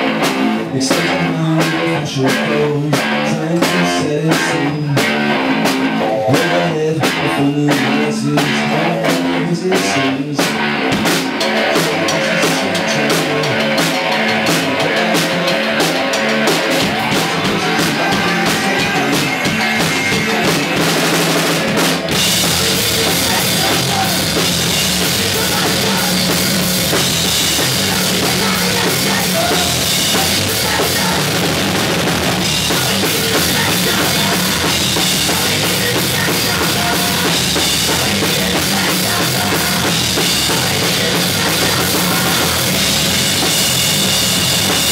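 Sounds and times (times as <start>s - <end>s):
rock band playing loudly: 0.0s - 44.9s.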